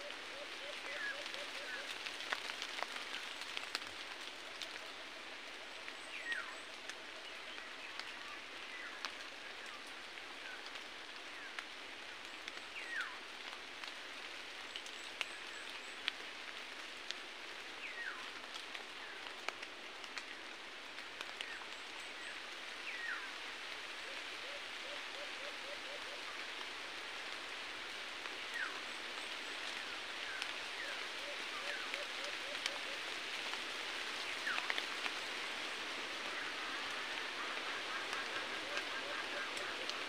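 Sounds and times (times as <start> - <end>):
steady forest hiss: 0.0 - 40.0.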